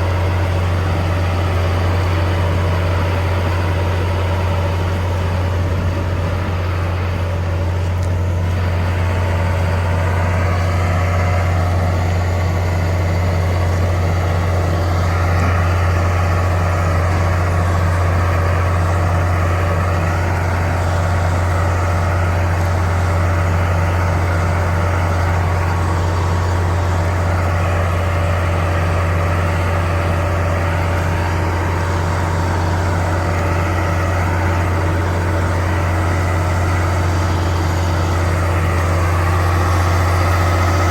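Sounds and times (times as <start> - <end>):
heavy machine engine humming: 0.0 - 40.9.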